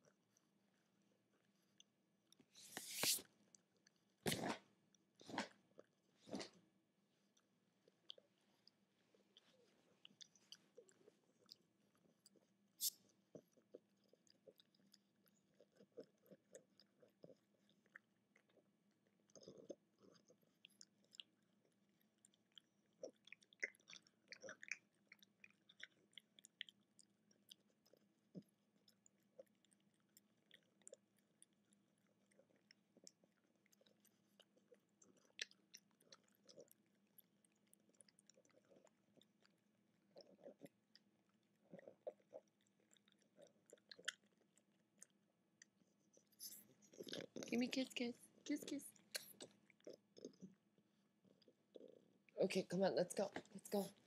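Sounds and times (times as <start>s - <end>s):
puppy chewing and crunching: 7.3s - 54.0s.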